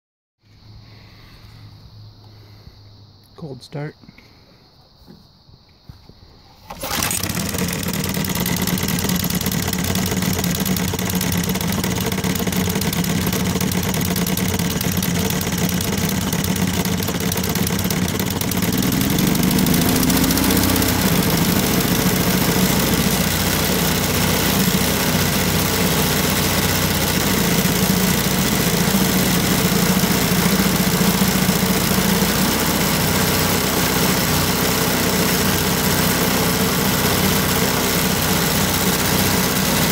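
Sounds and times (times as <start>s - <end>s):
mower engine running: 6.7s - 39.9s
starter rope pull: 6.7s - 39.9s.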